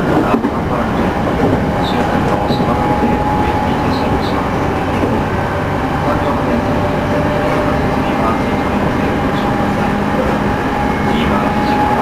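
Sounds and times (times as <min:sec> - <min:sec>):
rail joint clicks: 0:00.0 - 0:12.0
train motor whine: 0:00.0 - 0:12.0
train wheel and rail rumble: 0:00.0 - 0:12.0.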